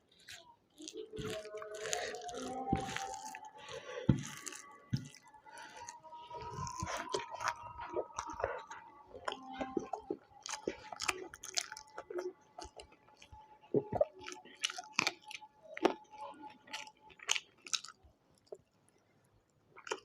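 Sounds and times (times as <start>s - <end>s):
chewing and biting food: 0.0s - 18.7s, 19.8s - 20.0s.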